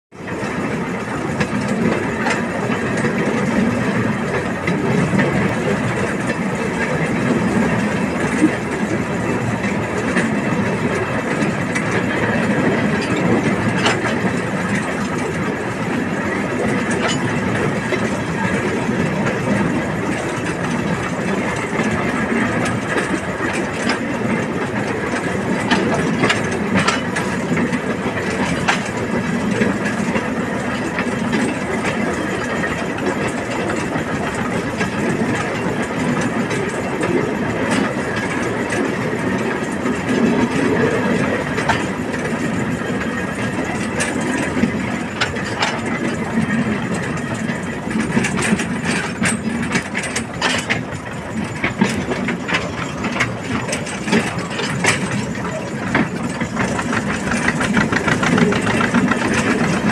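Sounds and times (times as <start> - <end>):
diesel locomotive engine running: 0.1 - 59.9
wheels clicking over rail joints: 0.2 - 59.9.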